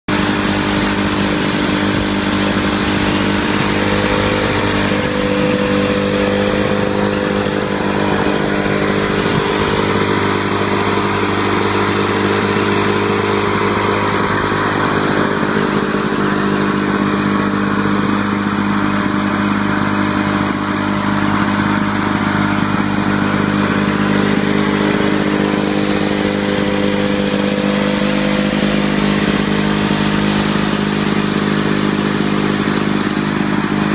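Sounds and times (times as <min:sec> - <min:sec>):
lawn mower engine running: 0:00.0 - 0:33.9.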